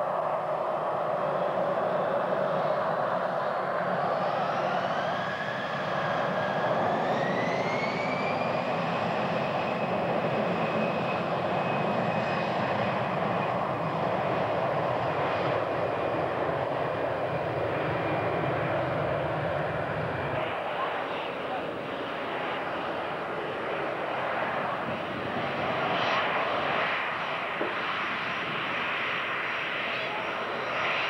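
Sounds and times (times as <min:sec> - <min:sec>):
jet engines spooling up: 0:00.0 - 0:31.0.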